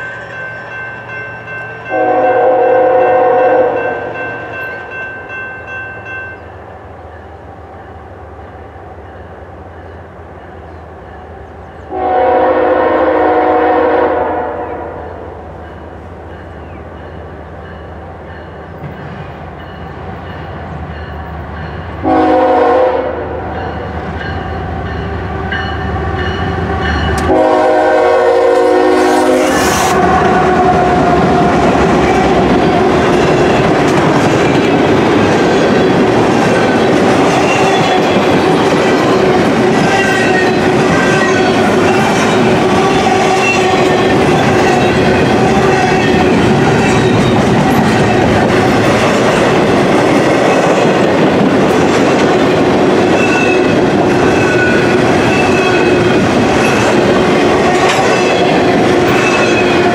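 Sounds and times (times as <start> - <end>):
diesel locomotives passing: 0.0 - 59.9
freight train rumbling past: 0.0 - 59.9.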